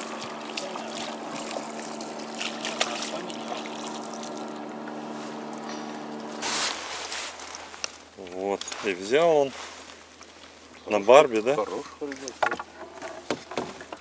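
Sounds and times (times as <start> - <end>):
outboard motor running: 0.0 - 14.0
water lapping at boat: 0.0 - 14.0.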